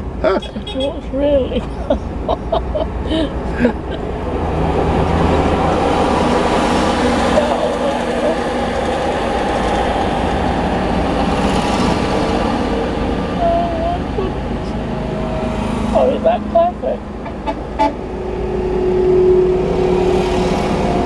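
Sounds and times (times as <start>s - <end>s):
tractor engines passing: 0.0s - 21.0s.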